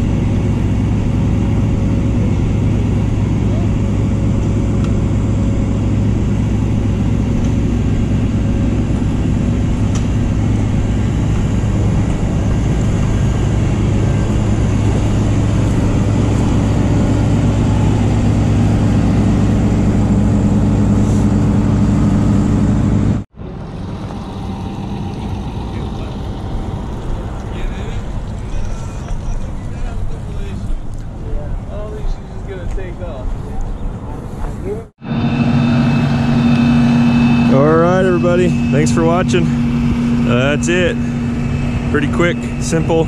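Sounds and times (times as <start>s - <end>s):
quieter engine hum: 0.0s - 43.0s
truck engine droning: 0.0s - 43.0s.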